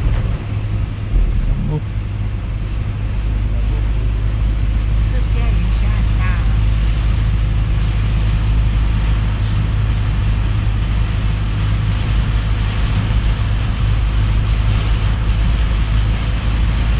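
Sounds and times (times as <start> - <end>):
deep low rumble: 0.0 - 16.9
heavy rain pouring: 0.0 - 16.9.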